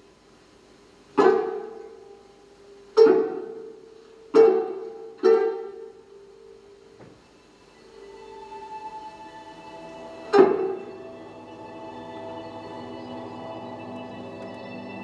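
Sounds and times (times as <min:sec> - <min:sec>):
plucked string instrument notes: 0:01.1 - 0:07.0, 0:07.8 - 0:15.0.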